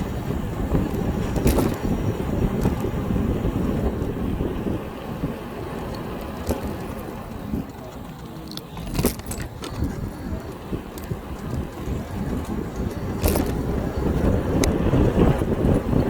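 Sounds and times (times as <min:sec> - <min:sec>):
bike metallic rattles and clicks: 0:00.0 - 0:16.0
wind rumble on microphone: 0:00.0 - 0:16.0.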